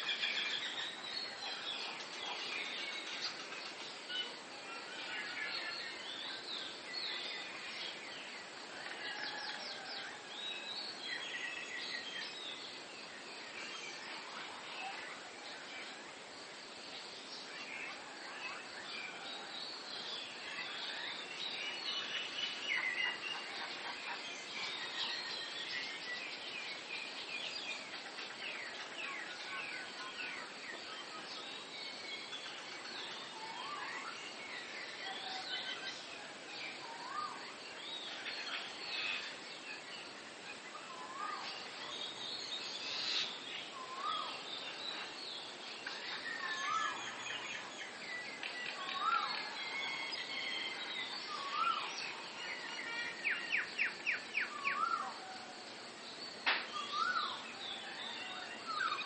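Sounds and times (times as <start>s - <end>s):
background hiss: 0.0s - 59.0s
birds singing and chirping: 0.0s - 59.0s.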